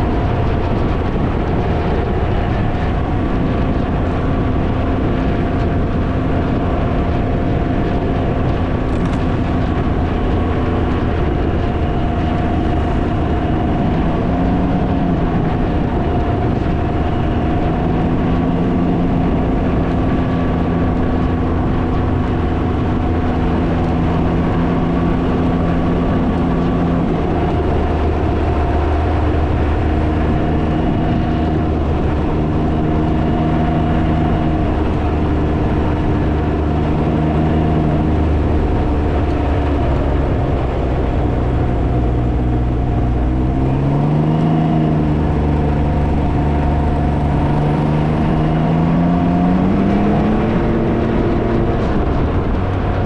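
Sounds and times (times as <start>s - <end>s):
three-wheeler engine cruising: 0.0s - 53.0s
wind rumble on microphone: 0.0s - 53.0s.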